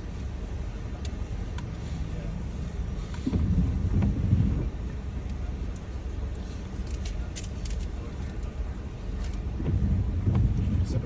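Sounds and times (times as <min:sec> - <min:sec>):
car idling: 0:00.0 - 0:11.0.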